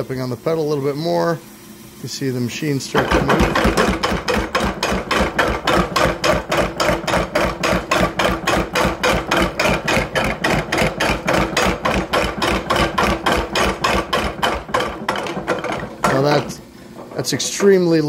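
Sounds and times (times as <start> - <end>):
mechanical trip hammer blows: 2.9 - 17.8.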